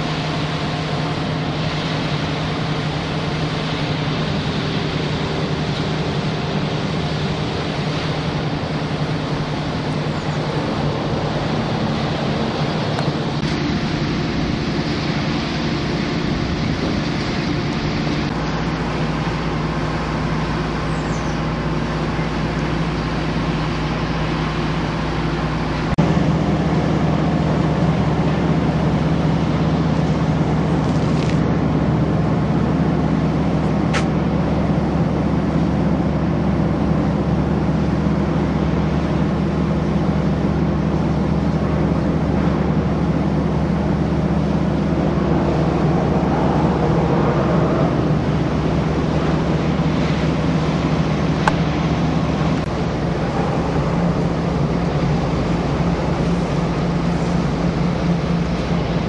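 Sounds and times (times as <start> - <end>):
wood chipper machine hum: 0.0 - 59.0.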